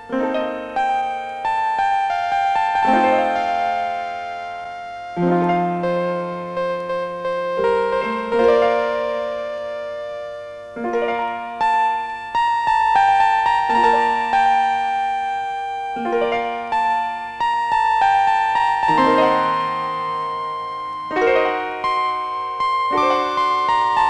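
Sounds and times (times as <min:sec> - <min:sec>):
keyboard melody of ringing notes: 0:00.0 - 0:24.0.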